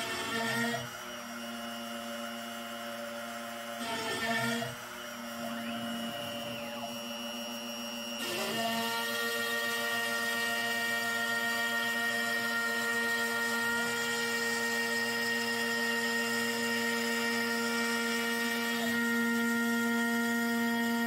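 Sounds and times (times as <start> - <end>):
router spindle whine cutting wood: 0.0 - 21.0.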